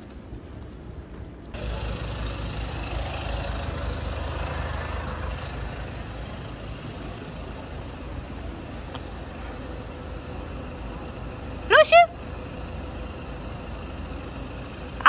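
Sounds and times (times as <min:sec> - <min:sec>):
steady traffic noise: 0:00.0 - 0:15.0
vehicle passing: 0:01.5 - 0:15.0.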